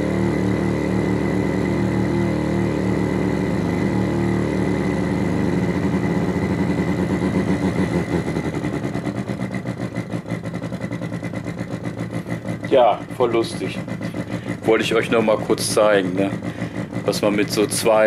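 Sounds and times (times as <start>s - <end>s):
low buzzing synthesized tone: 0.0s - 17.2s.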